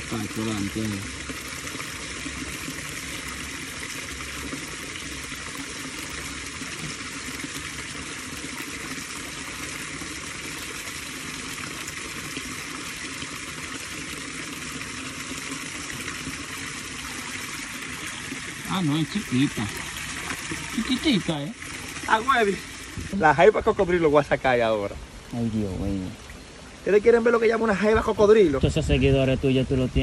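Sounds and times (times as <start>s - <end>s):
water rushing in a creek: 0.0s - 30.0s.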